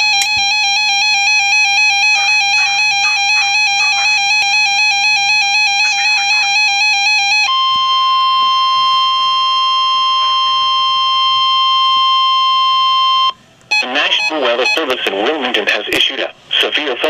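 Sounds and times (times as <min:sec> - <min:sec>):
fast-pulsing electronic alarm: 0:00.0 - 0:15.0
steady single-pitched warning tone: 0:00.0 - 0:15.0.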